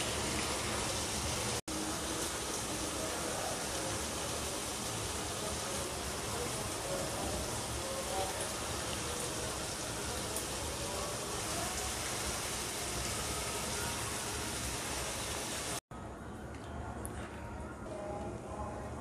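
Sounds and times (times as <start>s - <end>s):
curry sizzling in oil: 0.0s - 15.8s.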